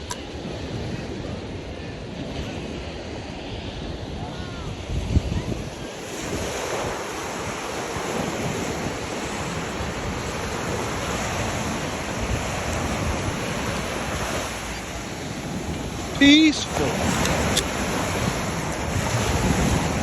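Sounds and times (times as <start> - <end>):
ocean waves breaking on beach: 0.0 - 20.0
wind buffeting microphone: 0.0 - 20.0.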